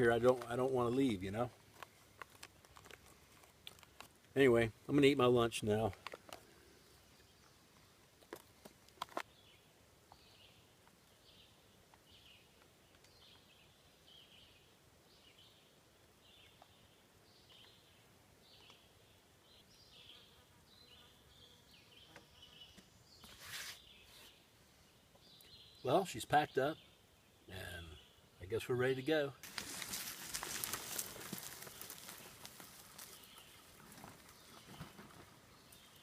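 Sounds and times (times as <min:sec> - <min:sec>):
faint woodland ambience: 0:00.0 - 0:36.0.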